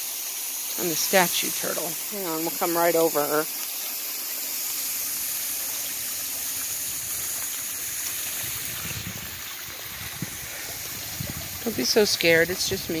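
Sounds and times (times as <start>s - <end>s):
running water hissing: 0.0s - 13.0s.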